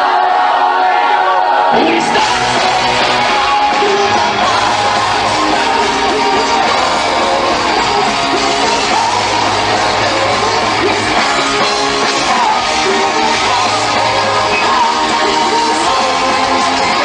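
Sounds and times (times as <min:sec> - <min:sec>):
metal band playing live: 0:01.7 - 0:17.0.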